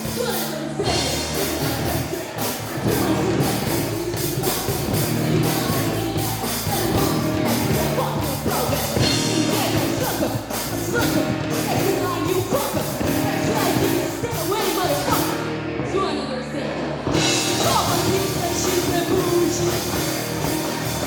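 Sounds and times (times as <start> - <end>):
drum kit with crashing cymbals: 0.0 - 15.5, 17.1 - 21.0
electric guitars and bass: 0.0 - 21.0
person singing: 0.0 - 21.0.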